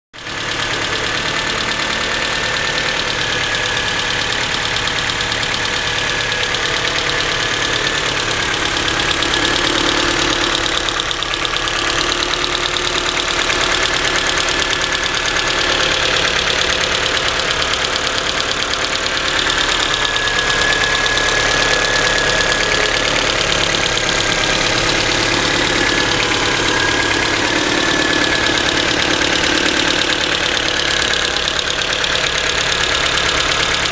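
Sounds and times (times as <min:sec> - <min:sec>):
engine idling: 0:00.2 - 0:33.9
rapid ticking from engine: 0:00.2 - 0:33.9.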